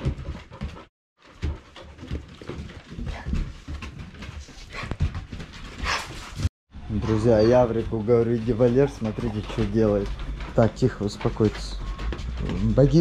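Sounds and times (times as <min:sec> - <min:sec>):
dogs panting: 0:00.0 - 0:13.0
paws thudding on wooden boards: 0:00.0 - 0:13.0.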